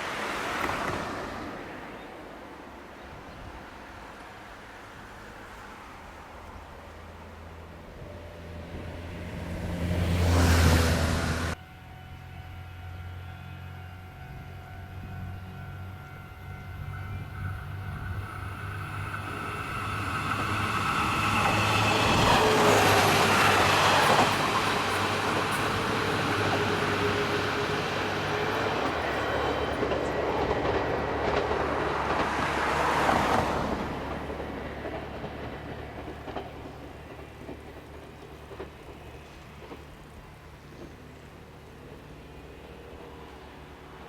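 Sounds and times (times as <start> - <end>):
train passing: 0.0 - 44.0.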